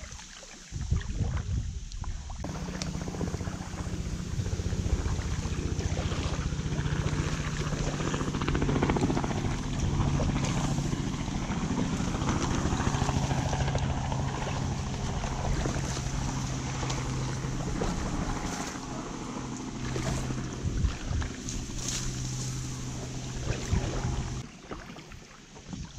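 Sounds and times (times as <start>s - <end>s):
paddle strokes in water: 0.0s - 25.9s
wind on microphone: 0.7s - 24.4s
steady low hum: 2.4s - 24.4s
reeds scraping along inflatable hull: 2.4s - 25.9s.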